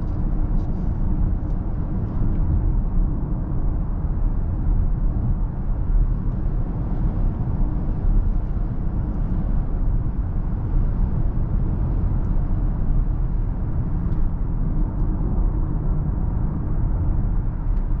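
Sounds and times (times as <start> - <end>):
road and tyre rumble: 0.0 - 18.0.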